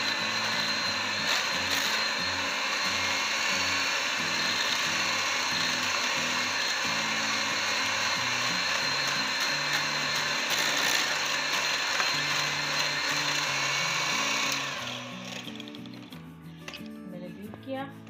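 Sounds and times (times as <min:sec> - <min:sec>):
electric hand mixer whisking: 0:00.0 - 0:16.9
soft background music: 0:00.4 - 0:18.0.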